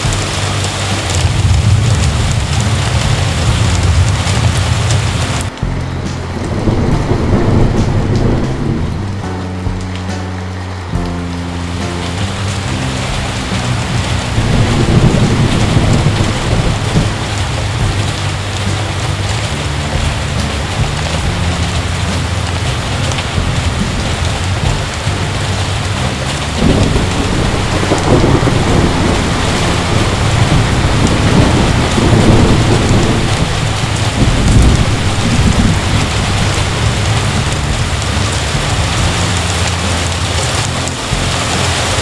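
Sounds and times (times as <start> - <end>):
heavy rain falling: 0.0 - 42.0
thunder rumbling: 0.0 - 42.0.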